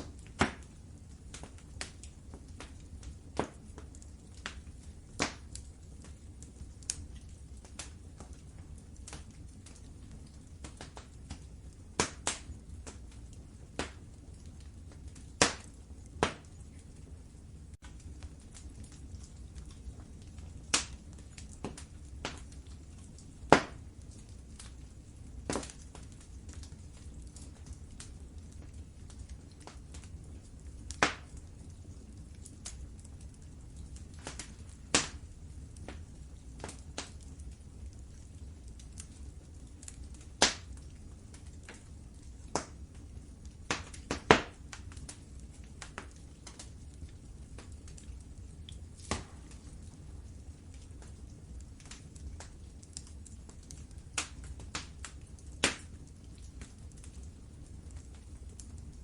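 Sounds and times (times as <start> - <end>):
fire crackling and popping: 0.0 - 59.0
fire rumbling: 0.0 - 59.0.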